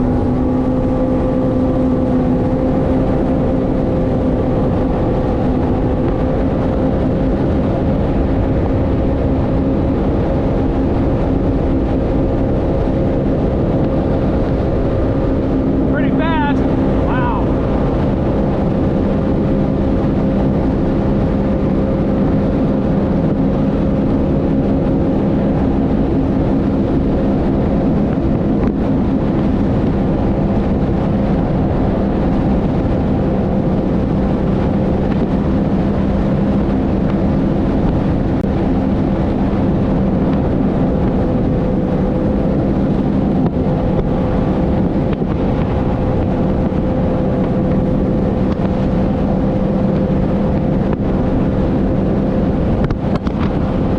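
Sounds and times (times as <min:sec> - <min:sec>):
water and wind noise: 0:00.0 - 0:53.9
watercraft engine running: 0:00.0 - 0:53.9.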